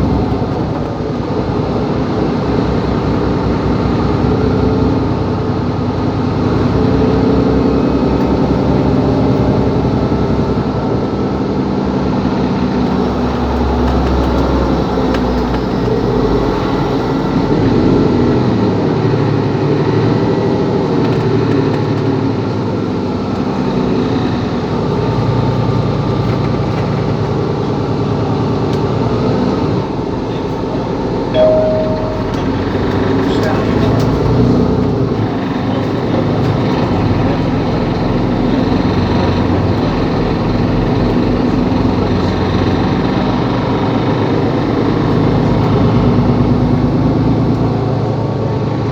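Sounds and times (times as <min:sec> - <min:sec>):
bus diesel engine running: 0:00.0 - 0:48.9.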